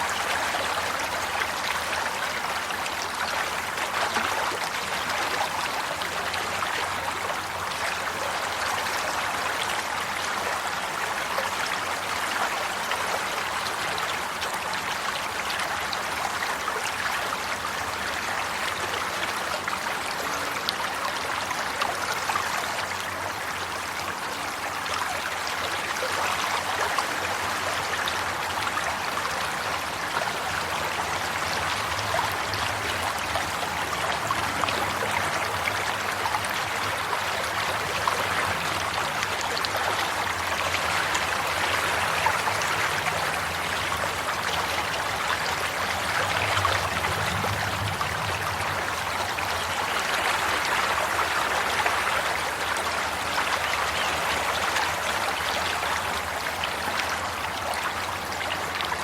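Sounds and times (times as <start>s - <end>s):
stream babbling: 0.0s - 59.0s.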